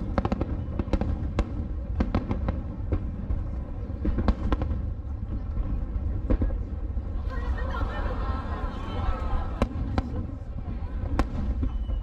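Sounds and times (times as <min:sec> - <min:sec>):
fireworks bangs and booms: 0:00.0 - 0:12.0.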